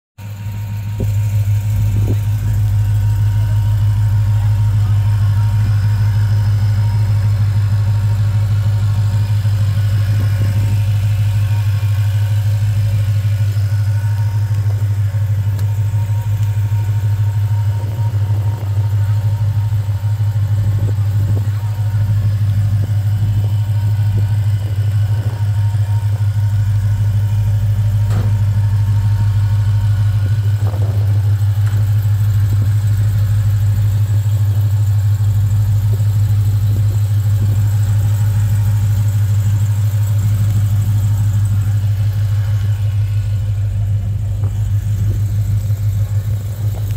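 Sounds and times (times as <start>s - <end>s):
car engine idling: 0.2s - 46.9s.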